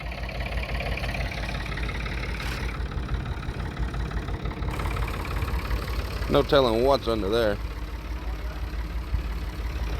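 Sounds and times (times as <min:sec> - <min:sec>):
engine idling: 0:00.0 - 0:09.9.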